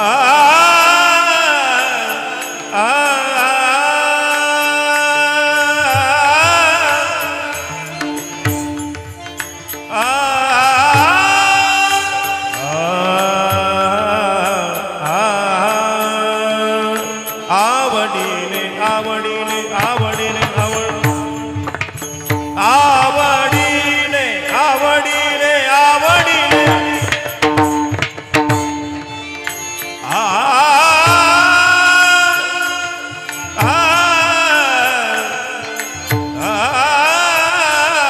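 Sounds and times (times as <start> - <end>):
person singing: 0.0 - 38.0
held accompanying notes: 1.8 - 38.0
tabla-like drum strokes: 5.5 - 17.6, 18.2 - 38.0.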